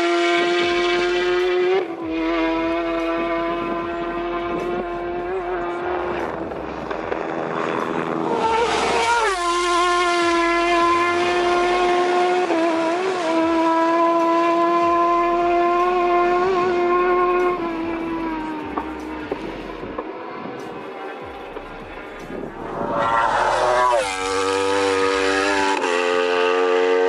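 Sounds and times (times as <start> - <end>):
racing motorcycle engine revving: 0.0 - 27.0.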